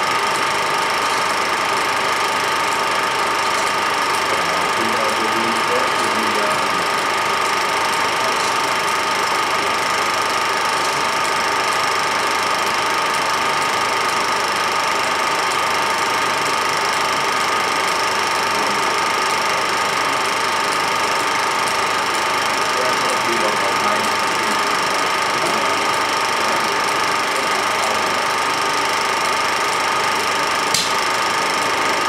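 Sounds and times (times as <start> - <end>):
machine whirring: 0.0 - 32.0.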